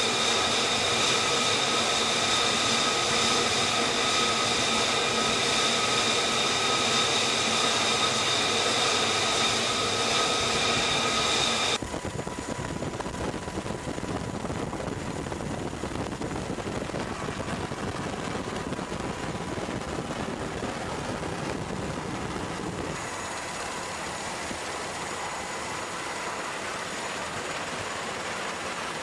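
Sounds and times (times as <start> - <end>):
jet engine whine and rush: 0.0 - 29.0.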